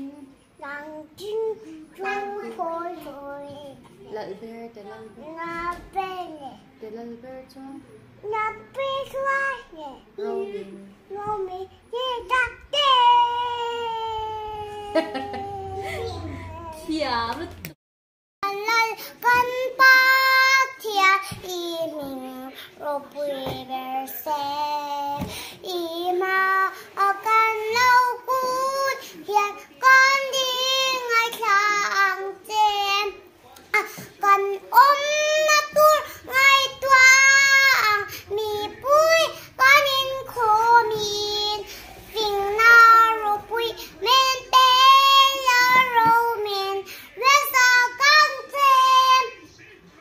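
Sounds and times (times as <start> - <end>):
girl singing: 0.0 - 16.9, 18.4 - 49.4.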